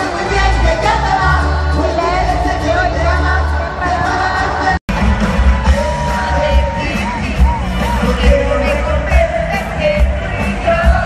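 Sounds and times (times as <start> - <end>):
live band with singer: 0.0 - 11.0.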